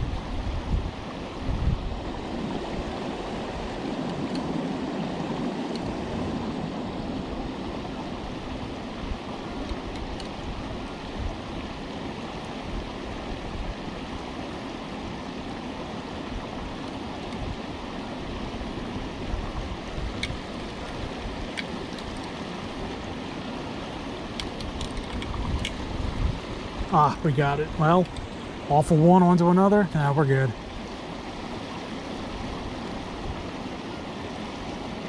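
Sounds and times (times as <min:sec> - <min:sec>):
creek water rushing: 0:00.0 - 0:35.0.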